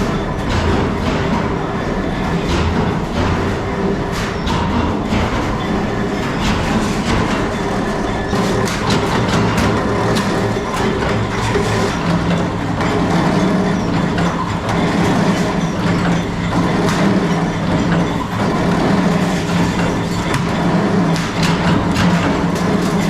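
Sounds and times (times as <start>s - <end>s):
sharp clicks and knocks: 0.0s - 13.0s, 14.1s - 23.0s
workshop machinery humming: 0.0s - 23.0s.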